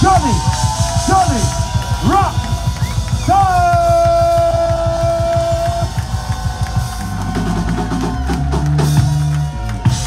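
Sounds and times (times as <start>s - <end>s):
bass line: 0.0s - 10.0s
drum kit playing: 0.0s - 10.0s.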